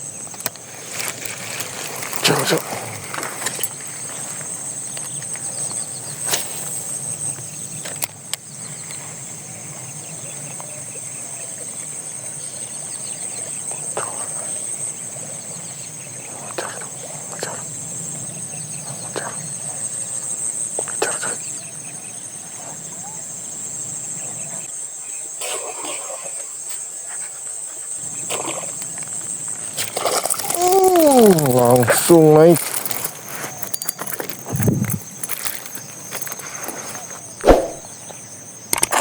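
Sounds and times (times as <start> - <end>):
insect chorus drone: 0.0 - 39.0.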